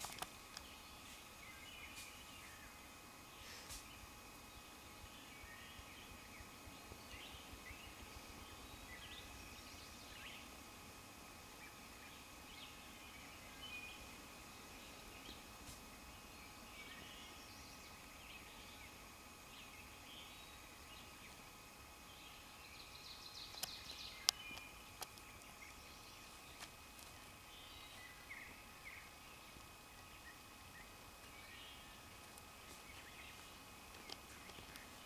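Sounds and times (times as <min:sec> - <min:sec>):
rustle: 0:00.0 - 0:35.0
songbird chirps: 0:00.0 - 0:35.0.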